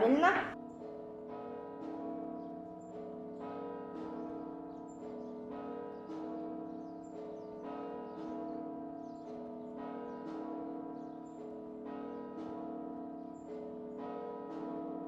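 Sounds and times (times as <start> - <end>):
bells ringing: 0.0 - 15.0.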